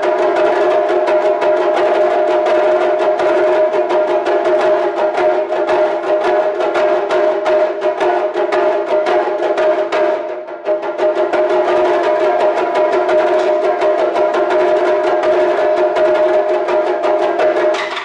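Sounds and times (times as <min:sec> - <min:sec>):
drum ensemble playing rapid strokes: 0:00.0 - 0:18.0.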